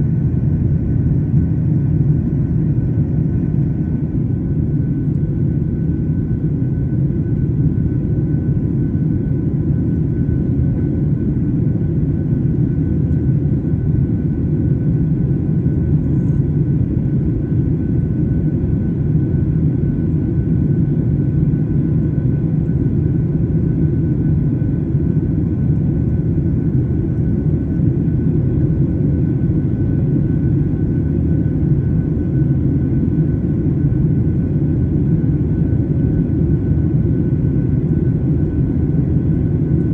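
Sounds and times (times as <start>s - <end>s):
jet engine faint whine: 0.0s - 39.9s
jet engine low rumble: 0.0s - 39.9s.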